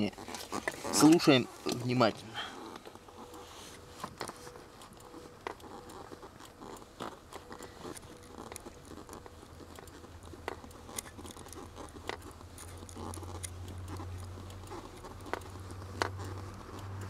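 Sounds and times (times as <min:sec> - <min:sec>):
clutch pedal clicks and clacks: 0:00.0 - 0:17.0
low steady hum: 0:00.0 - 0:17.0.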